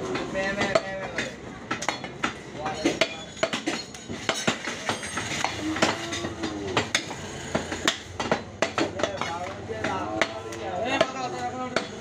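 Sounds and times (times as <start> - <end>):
knives chopping on wooden blocks: 0.1 - 12.0.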